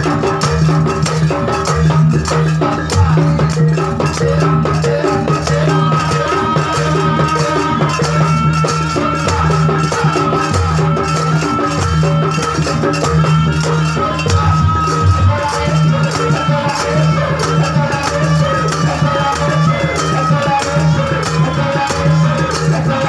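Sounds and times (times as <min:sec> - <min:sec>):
drum and rattle rhythm: 0:00.0 - 0:23.0
long-held high tone: 0:02.6 - 0:23.0.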